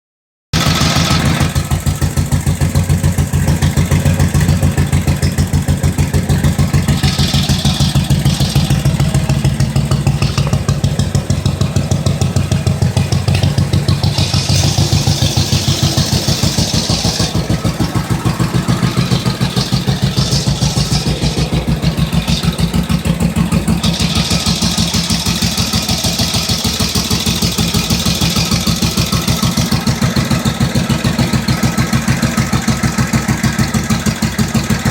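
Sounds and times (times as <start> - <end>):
motorcycle engine idling: 0.6 - 34.9.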